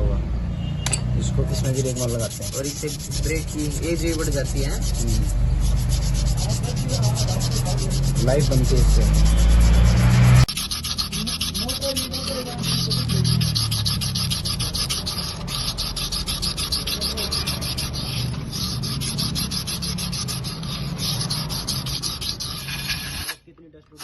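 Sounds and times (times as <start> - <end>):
sandpaper rubbing brake shoes: 1.2 - 23.4.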